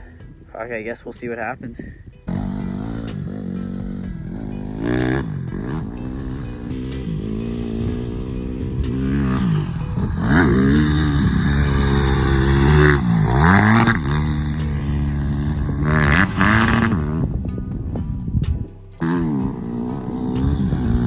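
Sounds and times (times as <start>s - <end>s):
dirt bike engine revving: 1.8s - 21.0s.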